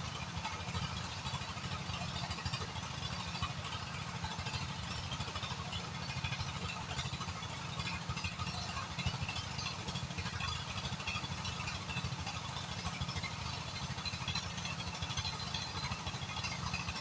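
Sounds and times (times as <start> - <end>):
engine running with low throb: 0.0 - 17.0.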